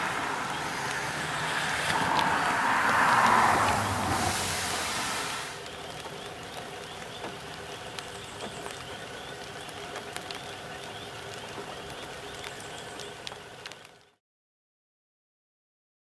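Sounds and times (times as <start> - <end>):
outdoor background noise: 0.0 - 14.2.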